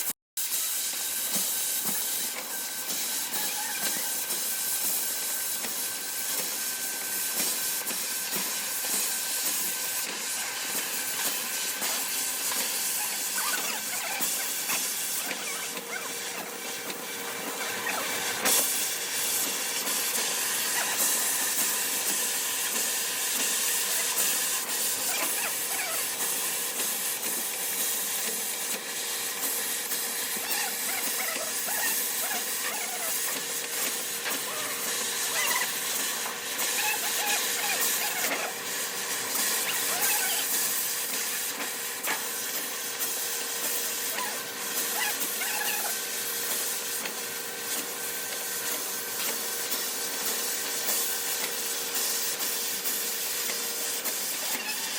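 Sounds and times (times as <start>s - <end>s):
welding arc crackling hiss: 0.0s - 54.9s.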